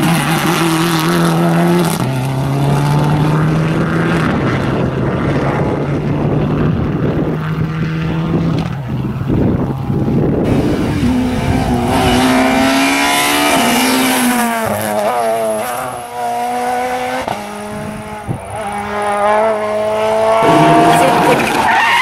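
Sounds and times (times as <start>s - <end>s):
rally car engine shifting gears: 0.0s - 22.0s.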